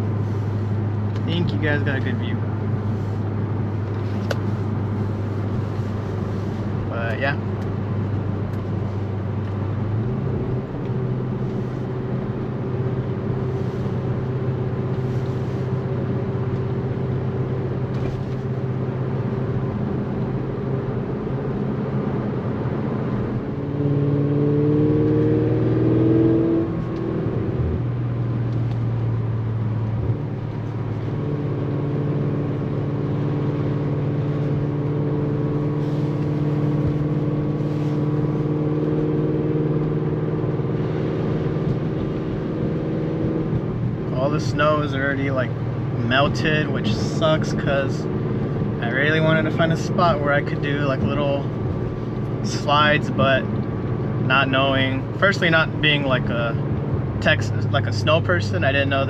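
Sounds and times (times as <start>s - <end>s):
car engine cruising: 0.0s - 59.0s.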